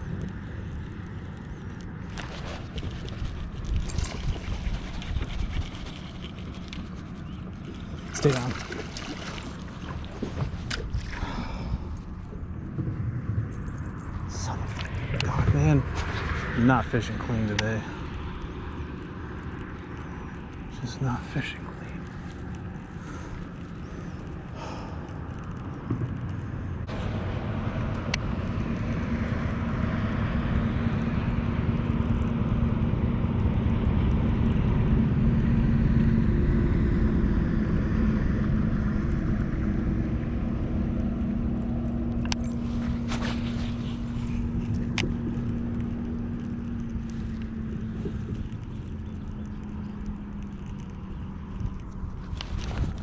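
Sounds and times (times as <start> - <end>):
motorboat engine passing by: 0.0 - 53.0.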